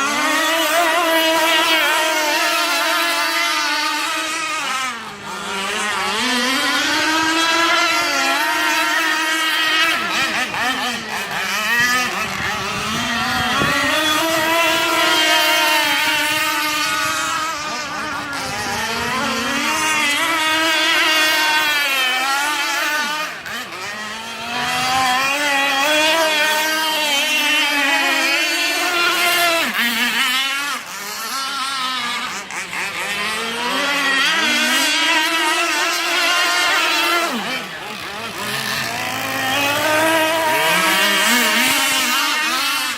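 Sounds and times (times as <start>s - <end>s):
small petrol engine revving: 0.0s - 42.9s.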